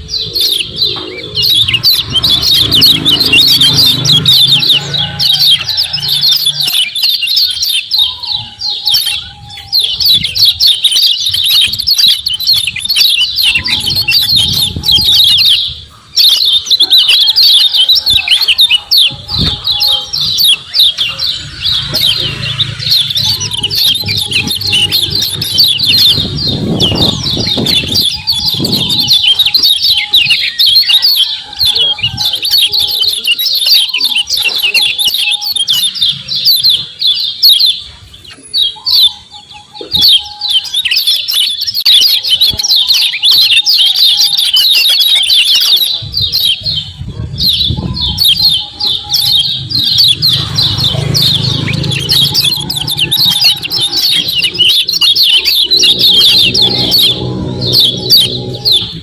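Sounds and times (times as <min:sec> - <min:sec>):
birds chattering calls: 0:00.0 - 0:59.0.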